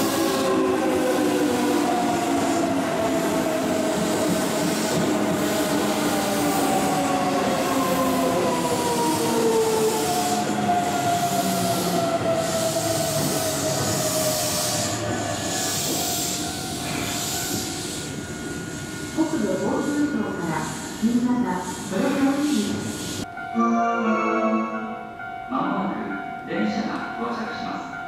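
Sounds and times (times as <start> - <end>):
train rushing hiss: 0.0 - 23.3.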